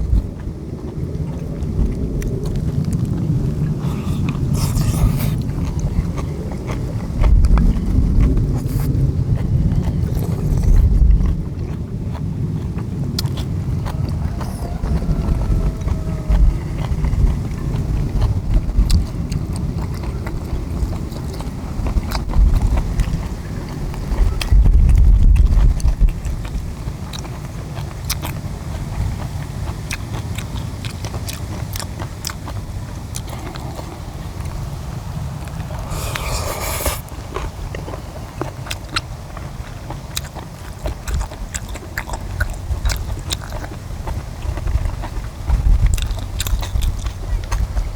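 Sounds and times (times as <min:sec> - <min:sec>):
low uneven rumble: 0:00.0 - 0:29.2, 0:32.0 - 0:47.9
chewing and biting food: 0:00.0 - 0:47.9.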